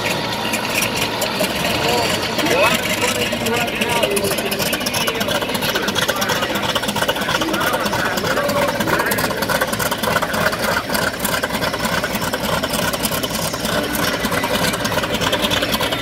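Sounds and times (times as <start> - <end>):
radial aircraft engine idling: 0.0 - 16.0.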